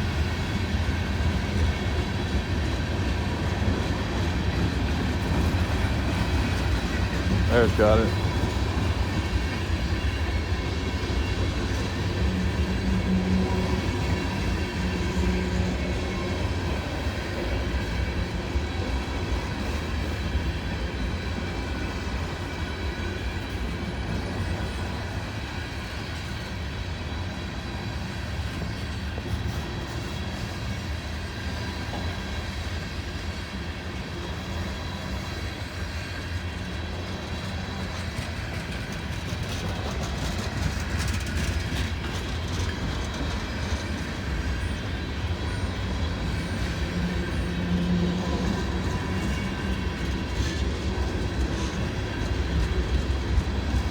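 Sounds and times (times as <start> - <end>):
freight train wheels rumbling on rail: 0.0 - 53.9.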